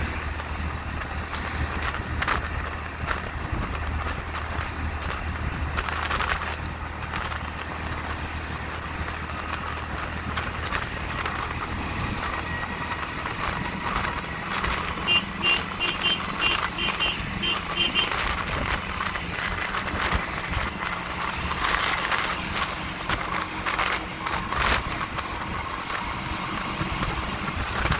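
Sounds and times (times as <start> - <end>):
road and traffic noise: 0.0 - 27.9.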